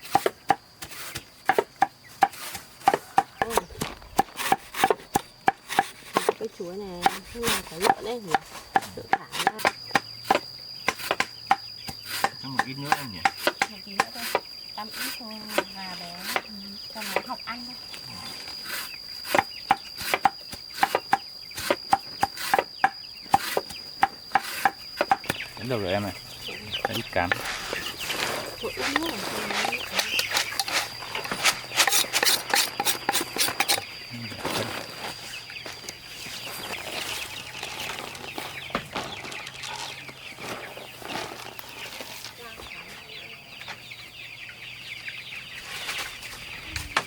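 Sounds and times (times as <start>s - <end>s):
chicks peeping: 0.9s - 47.0s.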